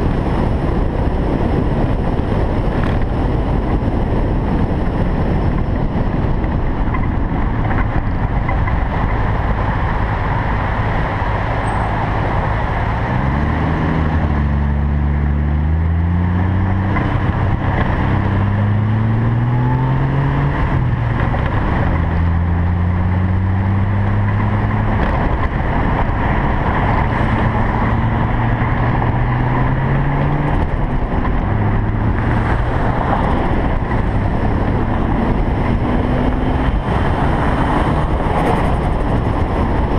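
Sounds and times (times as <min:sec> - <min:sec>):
car engine revving: 0:00.0 - 0:39.9
road noise: 0:00.0 - 0:39.9
wind noise: 0:00.0 - 0:39.9.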